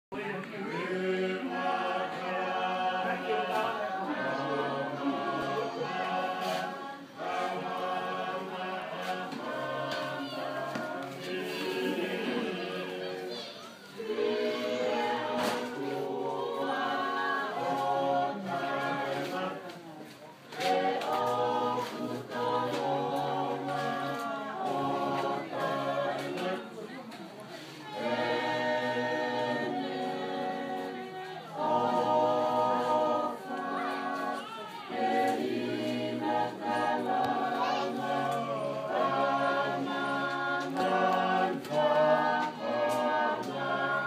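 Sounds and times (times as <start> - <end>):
choir singing in harmony: 0.2 - 19.7, 20.4 - 27.0, 27.6 - 44.0.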